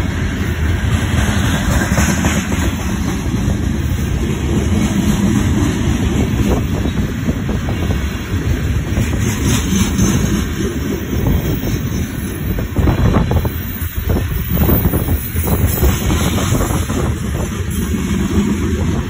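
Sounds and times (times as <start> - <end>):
freight train wheels rumbling on rail: 0.0 - 19.0
wheels clacking over rail joints: 0.0 - 19.0.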